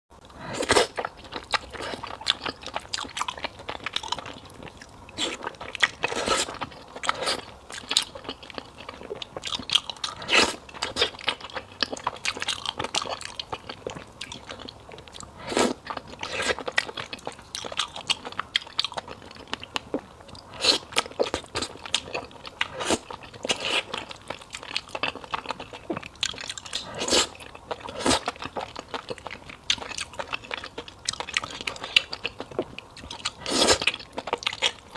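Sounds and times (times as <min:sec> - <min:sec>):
person chewing noodles: 0:00.2 - 0:34.9.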